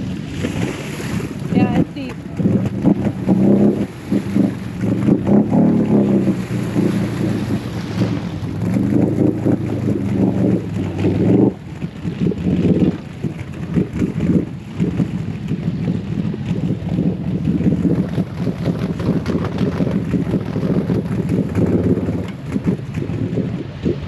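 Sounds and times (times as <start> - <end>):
water splashing and bubbling: 0.0 - 24.0
atv engine running: 1.4 - 24.0.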